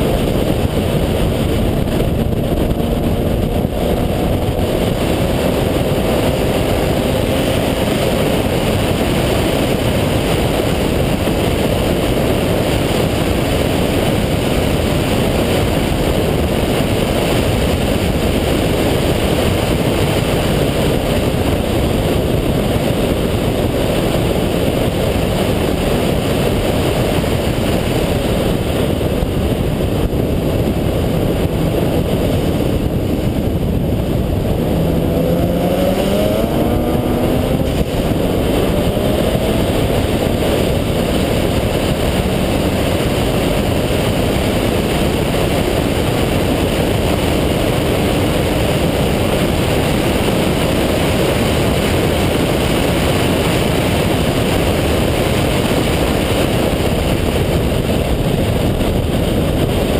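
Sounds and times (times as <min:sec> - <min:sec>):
rotary engine running hard: 0:00.0 - 0:59.9.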